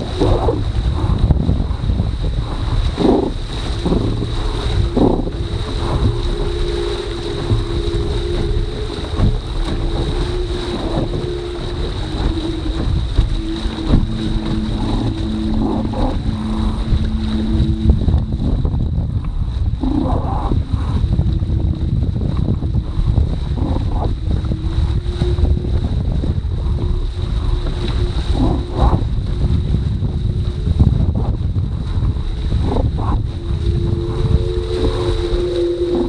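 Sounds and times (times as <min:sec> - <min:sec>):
steady hum shifting in pitch: 0:00.0 - 0:31.4, 0:32.6 - 0:36.0
water rushing and splashing: 0:00.0 - 0:36.0
wind buffeting microphone: 0:00.0 - 0:36.0.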